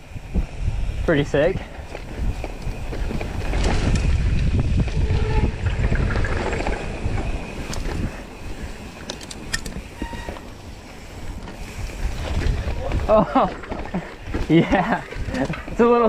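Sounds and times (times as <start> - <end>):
bike clicks and rattles: 0.0 - 16.0
wind buffeting microphone: 0.0 - 16.0
tyres rolling over dirt: 1.7 - 16.0.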